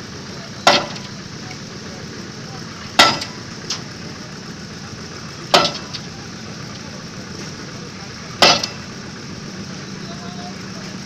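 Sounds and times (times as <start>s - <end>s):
engine hum: 0.0s - 11.0s.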